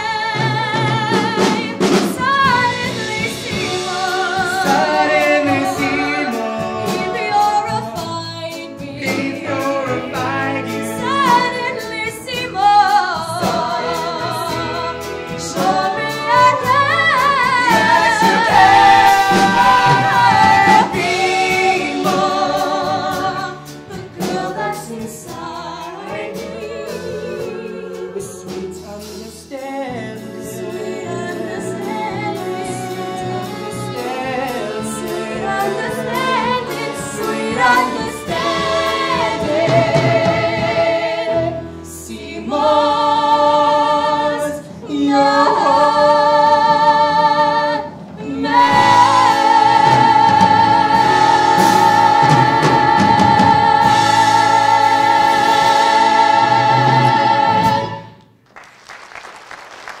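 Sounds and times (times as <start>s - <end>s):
man and woman singing duet: 0.0s - 58.2s
musical accompaniment: 0.0s - 60.0s
backing chorus: 1.2s - 8.1s, 13.2s - 28.8s, 30.3s - 58.3s.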